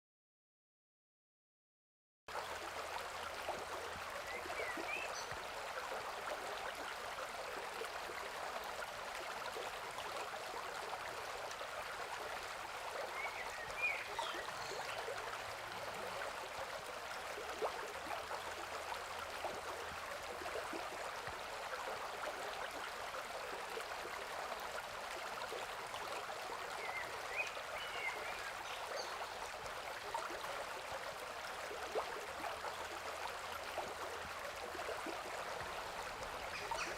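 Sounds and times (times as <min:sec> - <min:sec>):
stream babbling: 0:02.3 - 0:36.9.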